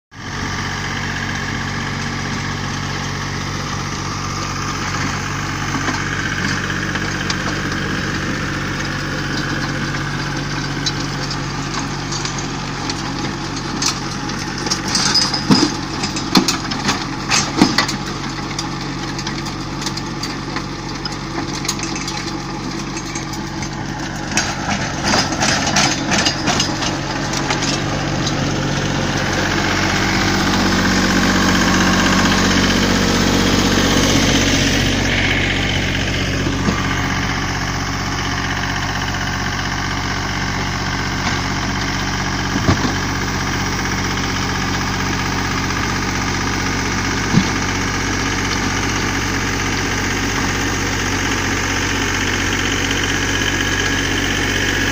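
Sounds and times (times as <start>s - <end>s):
tractor diesel engine running: 0.1s - 54.9s
tiller clicks and knocks on stones: 4.7s - 35.0s, 36.0s - 50.8s.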